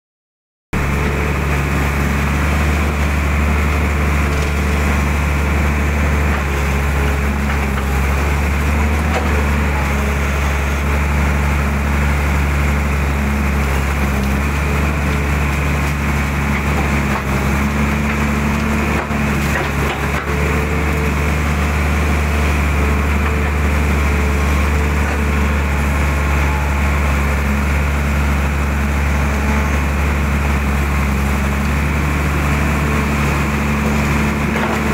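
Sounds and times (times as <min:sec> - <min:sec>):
excavator diesel engine running: 0:00.7 - 0:34.9.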